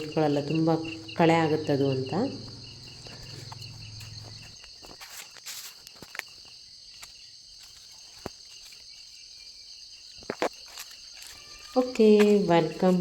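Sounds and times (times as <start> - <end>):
insect buzz: 0.0 - 13.0
pulsing insect chirp: 0.0 - 13.0.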